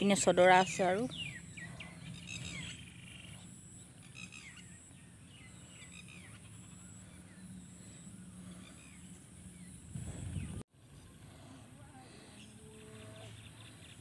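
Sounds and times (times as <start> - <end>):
birds chirping faintly: 0.0 - 14.0
low steady hum: 0.0 - 14.0.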